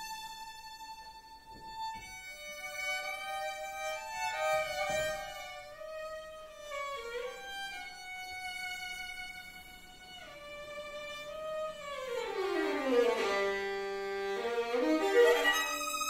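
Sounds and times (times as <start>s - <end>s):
violin playing slow melody: 0.0s - 16.0s.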